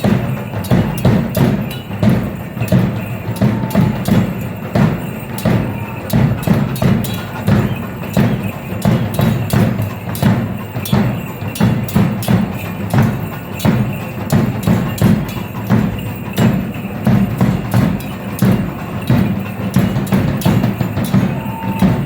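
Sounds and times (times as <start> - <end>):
drum beating driving rhythm: 0.0 - 22.0.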